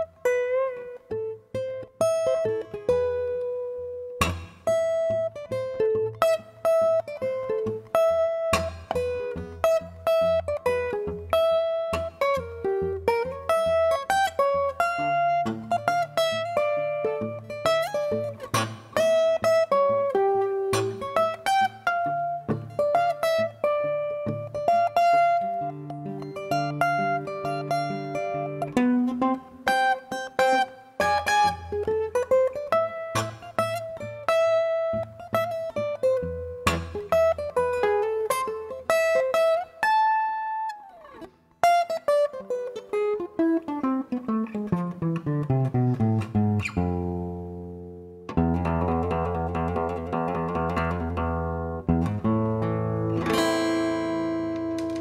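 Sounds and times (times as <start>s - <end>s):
fingerpicked acoustic guitar: 0.0s - 55.0s.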